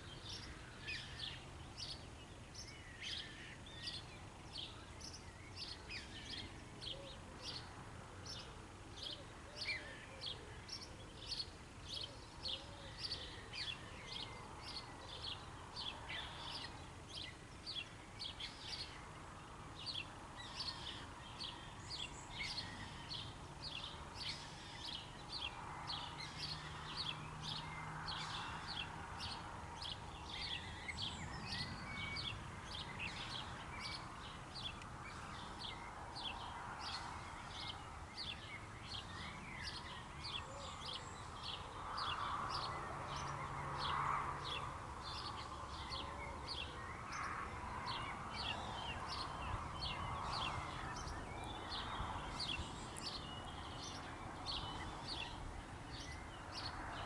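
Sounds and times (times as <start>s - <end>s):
soft steady hiss: 0.0s - 57.0s
songbird chirping: 0.0s - 57.0s.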